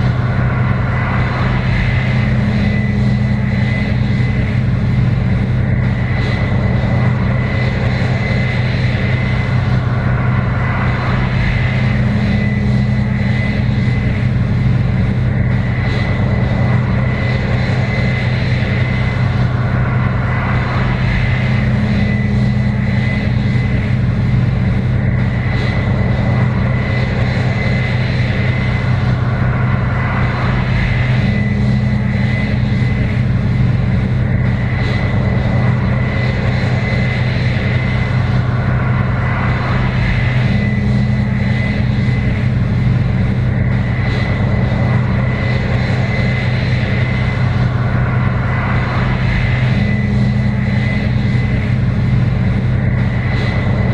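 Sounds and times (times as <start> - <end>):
combine harvester diesel drone: 0.0 - 53.9
thin high whine: 0.0 - 53.9.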